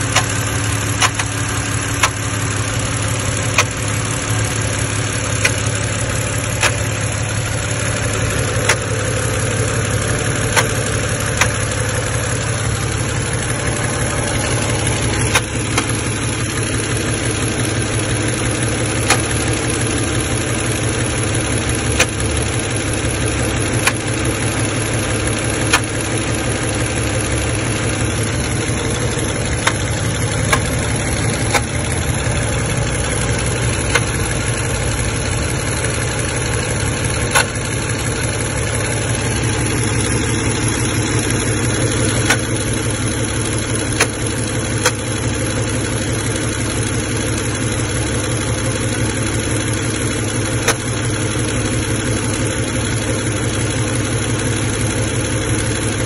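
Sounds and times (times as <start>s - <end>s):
car engine idling: 0.0s - 56.0s
sharp engine clicks: 0.0s - 56.0s.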